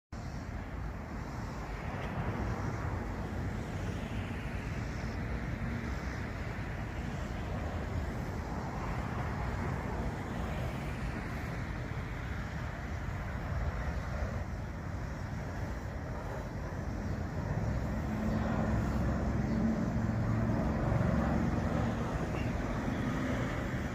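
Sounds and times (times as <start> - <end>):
jet engines rushing: 0.2 - 23.9.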